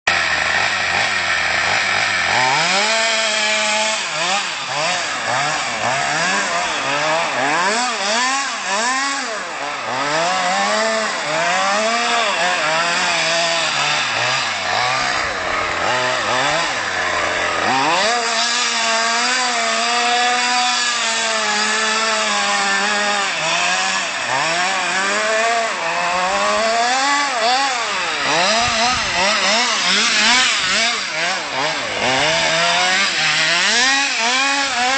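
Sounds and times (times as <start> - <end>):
model truck engine revving: 0.1 - 34.9.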